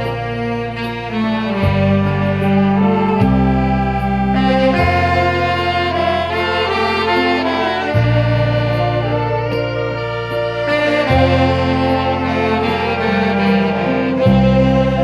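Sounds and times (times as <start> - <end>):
backing track bass notes: 0.0 - 15.0
saxophone melody with vibrato: 0.0 - 15.0.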